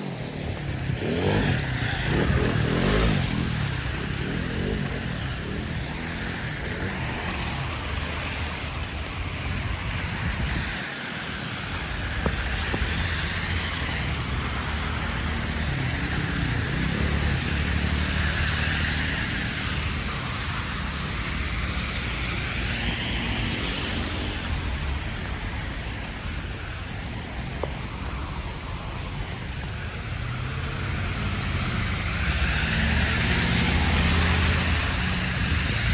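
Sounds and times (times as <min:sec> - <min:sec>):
low rumble of cars: 0:00.0 - 0:35.9.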